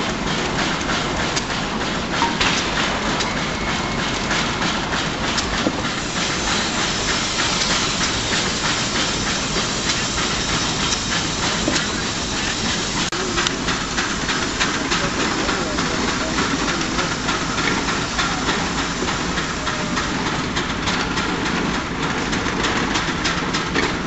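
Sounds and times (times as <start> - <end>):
steam engine exhaust chuffs: 0.0 - 24.0
steam hissing: 0.0 - 24.0.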